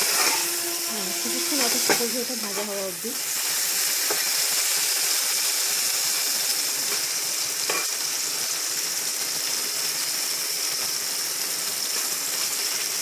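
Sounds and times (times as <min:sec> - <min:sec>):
potatoes sizzling in a pan: 0:00.0 - 0:13.0.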